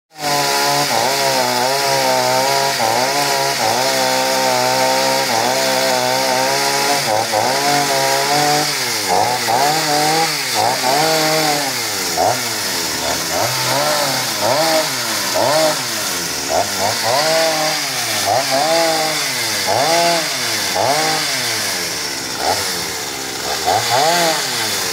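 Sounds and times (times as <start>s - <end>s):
chainsaw cutting wood: 0.1s - 24.9s.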